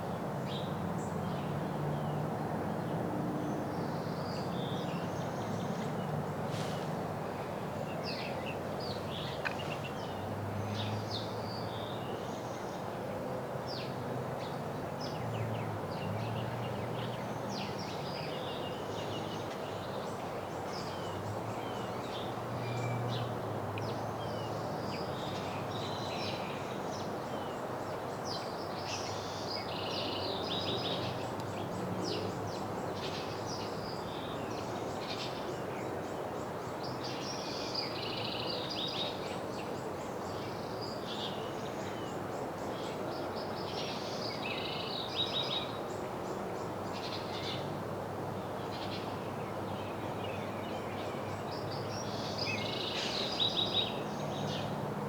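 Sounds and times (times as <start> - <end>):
songbirds chirping: 0.0 - 13.0, 13.7 - 55.0
outdoor background noise: 0.0 - 55.0.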